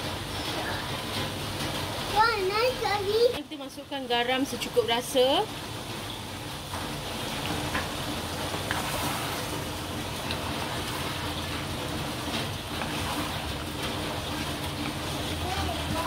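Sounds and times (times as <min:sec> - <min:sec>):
curry bubbling in a pan: 0:00.0 - 0:16.0.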